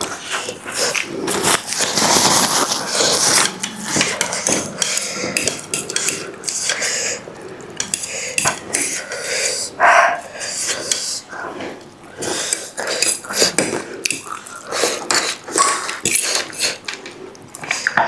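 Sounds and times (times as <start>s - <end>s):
utensils clinking against bowls: 0.0s - 9.7s, 10.4s - 18.0s.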